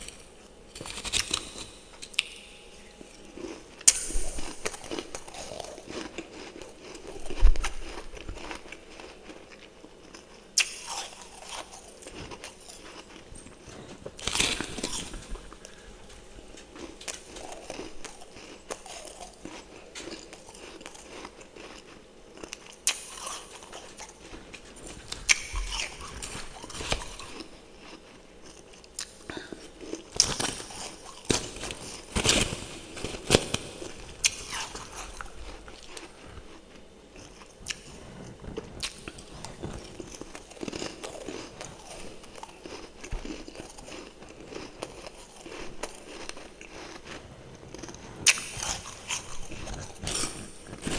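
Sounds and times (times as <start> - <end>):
chewing crunchy frost: 0.0 - 50.9.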